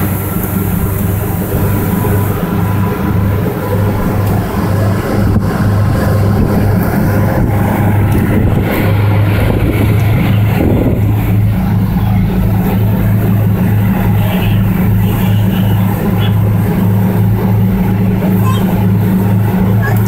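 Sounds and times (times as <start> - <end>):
engine drone with throb: 0.0 - 20.0.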